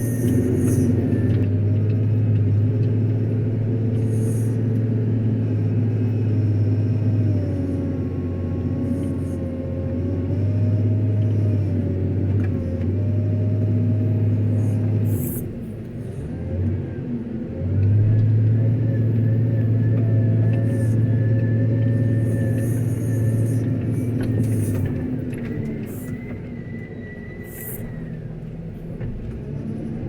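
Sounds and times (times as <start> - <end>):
diesel engine drone: 0.0 - 30.0.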